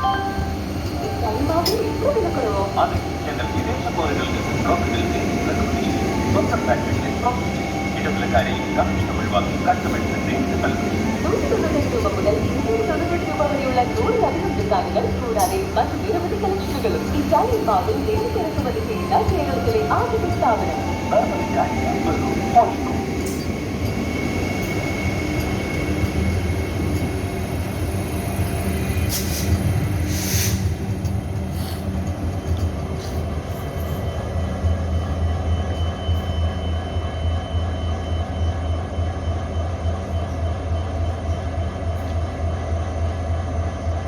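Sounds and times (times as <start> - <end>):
train hum and rumble: 0.0 - 44.0.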